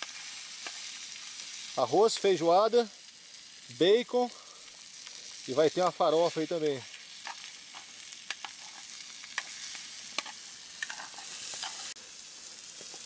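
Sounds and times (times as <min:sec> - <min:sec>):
bacon sizzling in a metal pan: 0:00.0 - 0:13.0.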